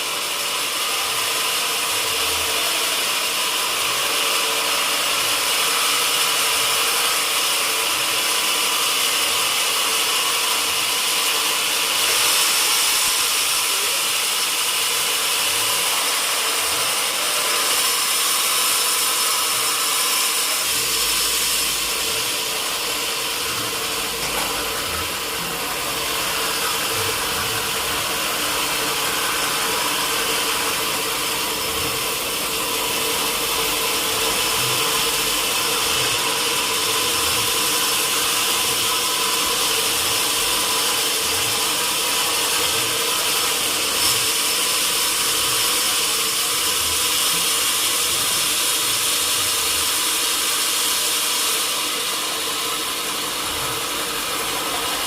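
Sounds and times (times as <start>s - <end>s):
loud high hiss: 0.0s - 55.0s
sawmill machinery hum: 0.0s - 55.0s.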